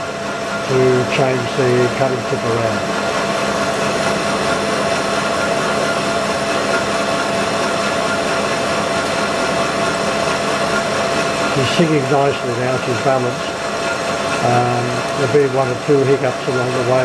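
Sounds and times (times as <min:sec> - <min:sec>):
lathe cutting tool singing tone: 0:00.0 - 0:17.0
lathe running noise: 0:00.0 - 0:17.0.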